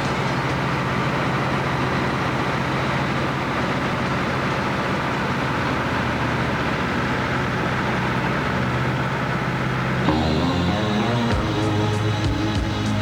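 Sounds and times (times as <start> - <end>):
aircraft engine droning in cabin: 0.0 - 13.0.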